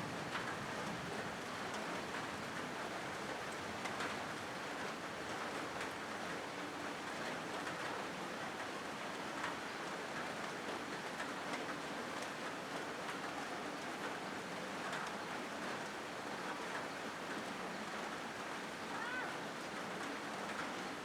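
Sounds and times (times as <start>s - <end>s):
rain on a metal roof: 0.0s - 21.0s.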